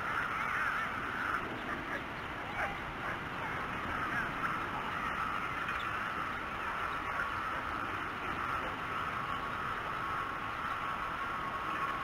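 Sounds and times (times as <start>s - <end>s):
distant birds chirping: 0.0s - 12.0s
steady outdoor hiss: 0.0s - 12.0s.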